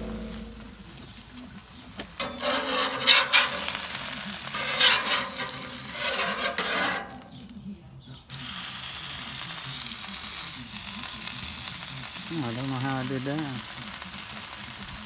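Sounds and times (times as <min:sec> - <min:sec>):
meat sizzling on a griddle: 0:00.2 - 0:15.0.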